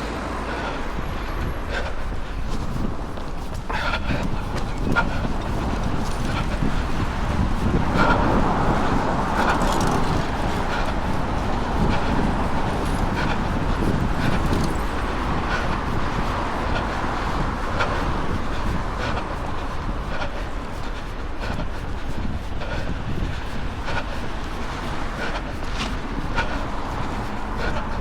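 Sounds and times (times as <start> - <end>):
road traffic passing: 0.0 - 28.0
wind on microphone: 0.0 - 28.0.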